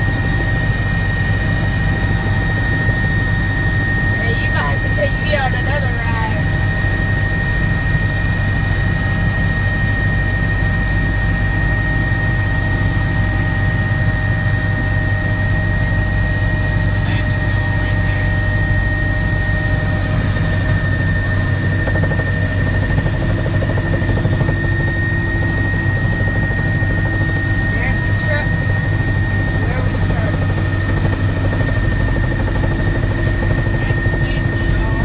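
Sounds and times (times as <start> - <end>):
helicopter cabin drone: 0.0 - 35.0.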